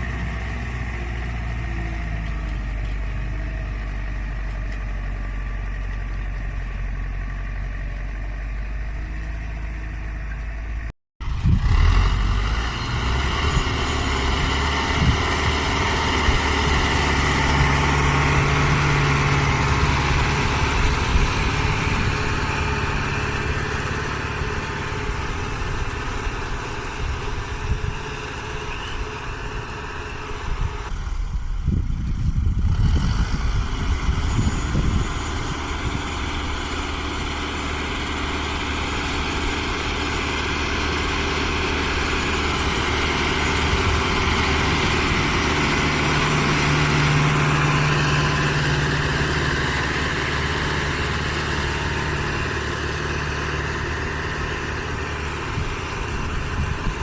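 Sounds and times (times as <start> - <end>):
low rumbling: 0.0 - 57.0
tractor diesel engine under load: 0.0 - 57.0.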